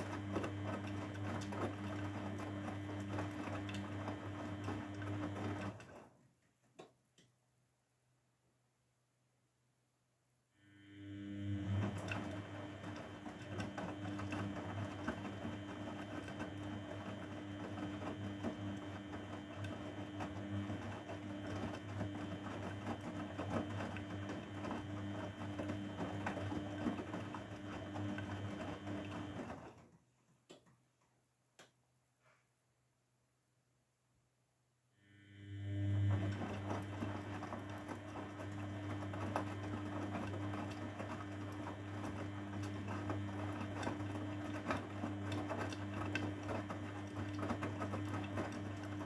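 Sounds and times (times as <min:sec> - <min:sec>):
washing machine running: 0:00.0 - 0:06.2, 0:10.6 - 0:30.0, 0:35.0 - 0:49.0.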